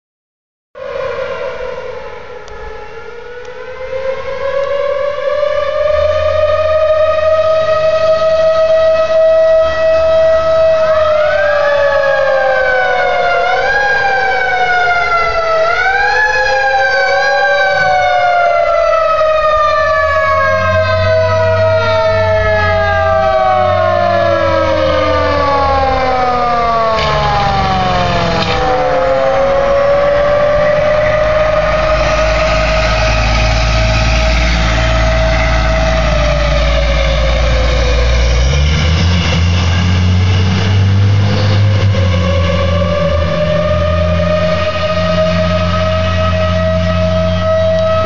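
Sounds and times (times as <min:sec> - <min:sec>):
mechanical siren wailing: 0:00.8 - 0:48.0
steady siren tone: 0:00.8 - 0:48.0
truck engine rumble: 0:00.9 - 0:48.0.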